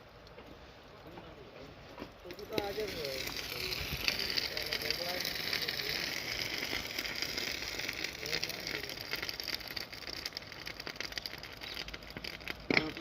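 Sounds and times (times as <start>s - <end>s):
crackling fizzing hiss: 0.0s - 13.0s.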